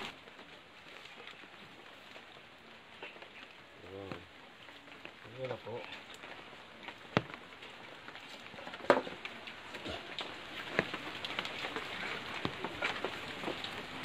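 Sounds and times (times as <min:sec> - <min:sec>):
light rain patter: 0:00.0 - 0:14.0.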